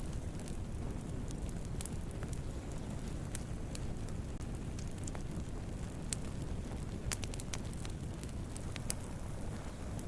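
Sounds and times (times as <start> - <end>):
low rumble of flames: 0.0 - 10.0
wood crackling and popping: 0.0 - 10.0.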